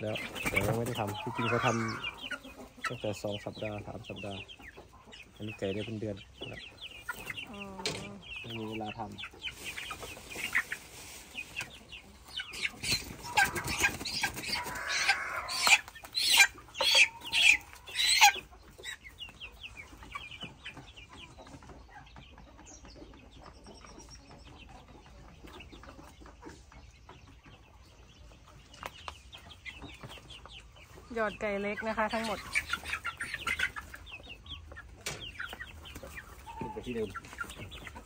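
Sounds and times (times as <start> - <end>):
chickens clucking and squawking: 0.0 - 38.0
chicks peeping: 0.0 - 38.0.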